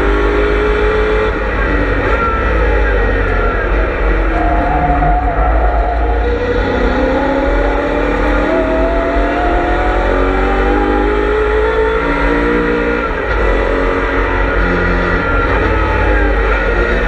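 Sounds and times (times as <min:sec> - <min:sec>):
racing engine accelerating: 0:00.0 - 0:17.0.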